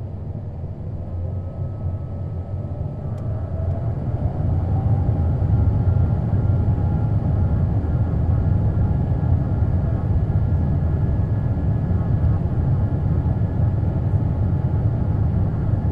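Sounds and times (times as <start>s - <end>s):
deep engine rumble: 0.0s - 15.9s.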